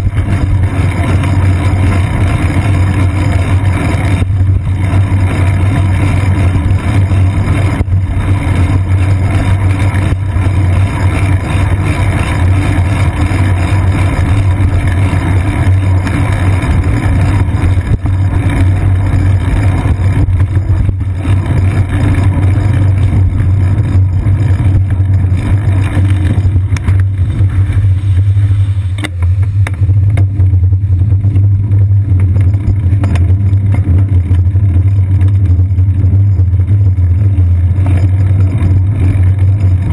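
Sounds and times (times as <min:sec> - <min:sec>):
road vibration rumble: 0:00.0 - 0:39.9
wind: 0:00.0 - 0:39.9.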